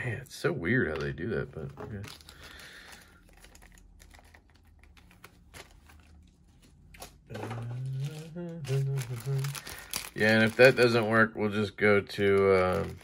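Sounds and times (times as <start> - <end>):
plastic bag rustling: 1.6 - 11.2, 12.2 - 13.0.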